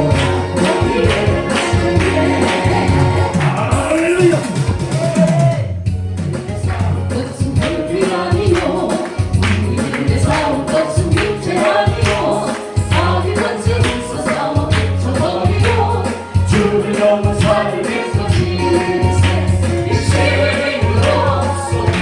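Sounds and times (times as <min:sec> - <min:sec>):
voices singing praise song: 0:00.0 - 0:05.5, 0:06.7 - 0:22.0
band accompaniment with bass: 0:00.0 - 0:22.0.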